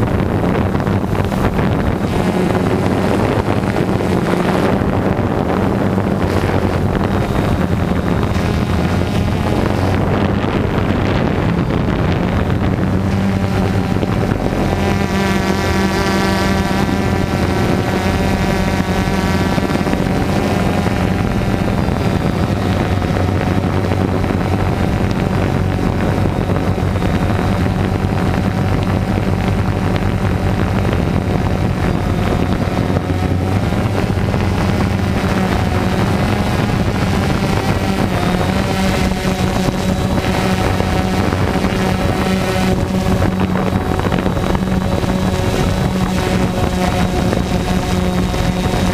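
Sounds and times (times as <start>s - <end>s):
drone motors humming: 0.0s - 48.9s
high motor whine: 0.0s - 48.9s
wind noise on microphone: 0.0s - 48.9s.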